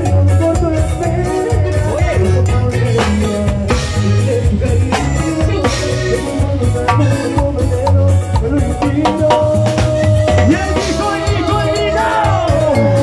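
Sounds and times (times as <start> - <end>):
bass line: 0.0 - 13.0
drum kit: 0.0 - 13.0
hand percussion: 0.0 - 13.0
latin dance band playing: 0.0 - 13.0.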